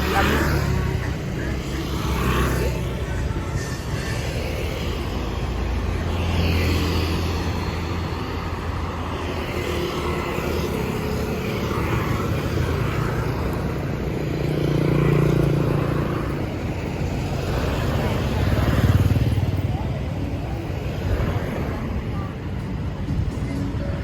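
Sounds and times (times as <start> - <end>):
motorbikes and cars passing: 0.0 - 24.0.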